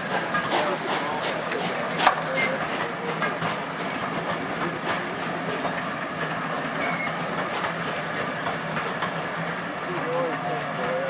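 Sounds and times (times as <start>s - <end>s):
train carriages rushing past: 0.0s - 11.0s
wheels clicking over rail joints: 0.0s - 11.0s.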